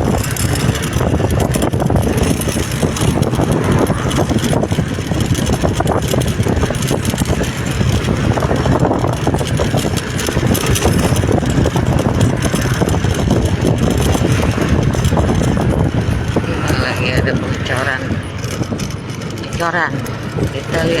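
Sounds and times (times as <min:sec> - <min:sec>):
vehicle and road noise: 0:00.0 - 0:21.0
wind buffeting microphone: 0:00.0 - 0:21.0.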